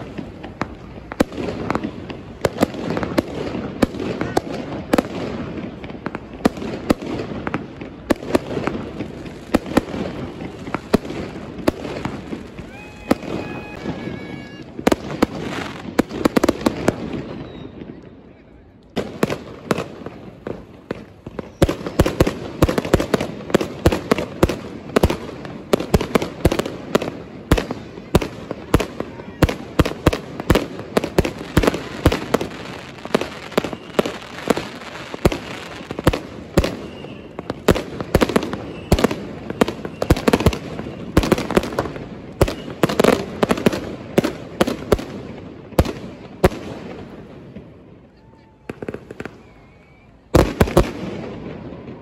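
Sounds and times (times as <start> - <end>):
background fireworks explosions: 0.0 - 52.0
firecrackers banging: 0.0 - 52.0.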